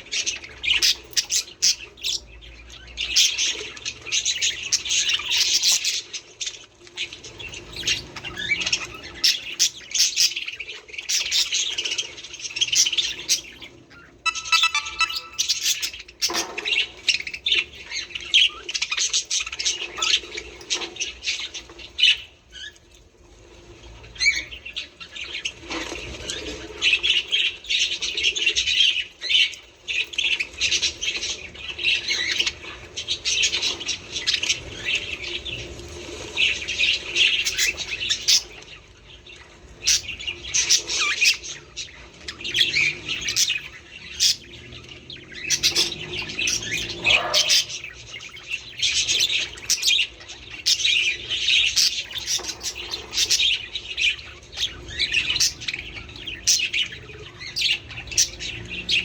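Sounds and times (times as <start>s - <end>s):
budgerigars chattering: 0.0s - 22.7s, 24.2s - 38.8s, 39.8s - 59.0s.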